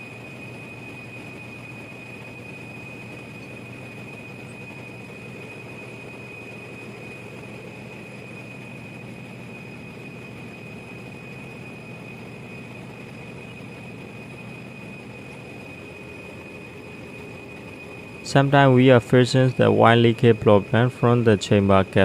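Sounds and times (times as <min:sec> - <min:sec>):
generator engine drone: 0:00.0 - 0:22.0
high whine: 0:00.0 - 0:22.0.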